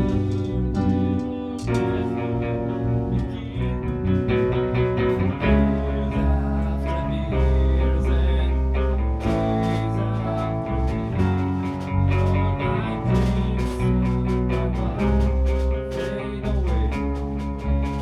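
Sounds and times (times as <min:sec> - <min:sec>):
band with electric guitar: 0:00.0 - 0:18.0.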